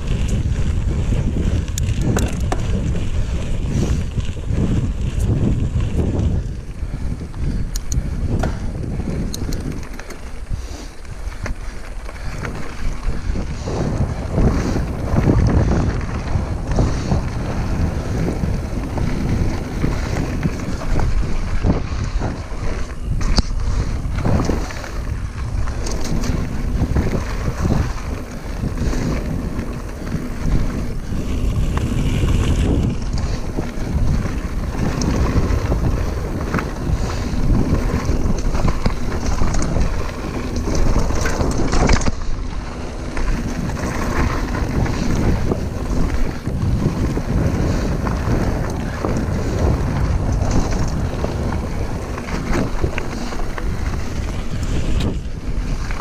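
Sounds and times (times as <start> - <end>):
bike knocking and rattling: 0.0 - 56.0
bike tyres rolling on gravel: 0.0 - 56.0
wind buffeting microphone: 0.0 - 56.0.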